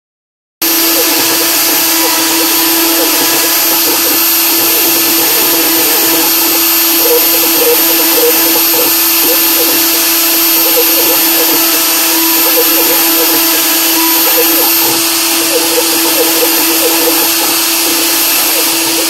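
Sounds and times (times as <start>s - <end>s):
milling machine spindle whine: 0.6s - 19.0s.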